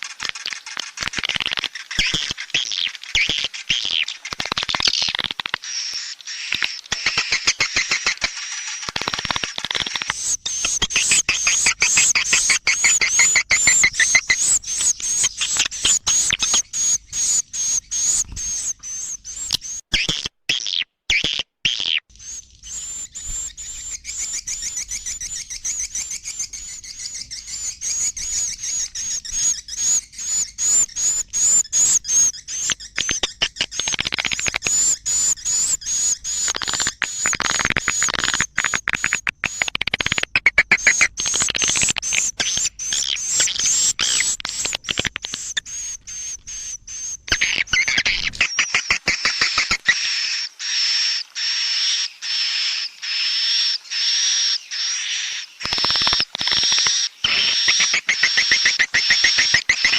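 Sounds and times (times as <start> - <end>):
many birds chirping rapidly: 0.0 - 19.9, 22.1 - 59.9.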